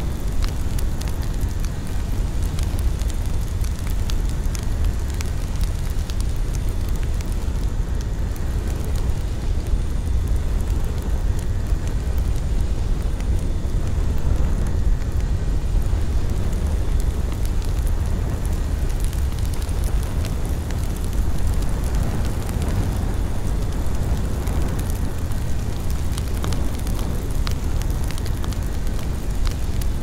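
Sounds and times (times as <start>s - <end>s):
low rumbling noise: 0.0s - 30.0s.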